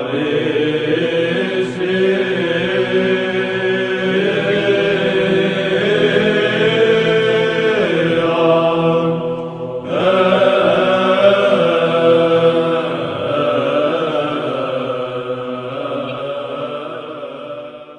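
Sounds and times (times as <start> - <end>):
low held drone: 0.0 - 17.9
voices chanting slow melody: 0.0 - 17.9.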